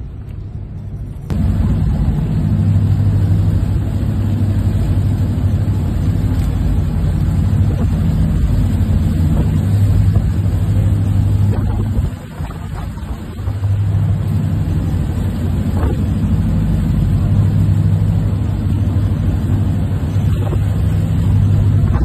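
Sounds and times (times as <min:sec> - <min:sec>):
boat engines droning: 0:00.0 - 0:22.0
wash of noise: 0:00.0 - 0:22.0.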